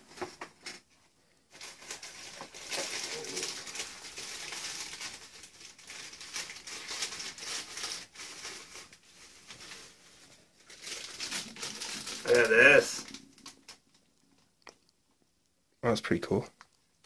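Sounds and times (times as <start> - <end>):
plastic bag crinkling: 0.0 - 14.9.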